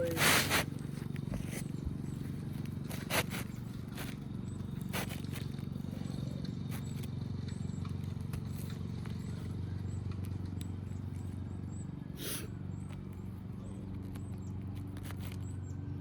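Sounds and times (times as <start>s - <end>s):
low machine hum: 0.0s - 16.0s
small birds chirping: 0.0s - 16.0s.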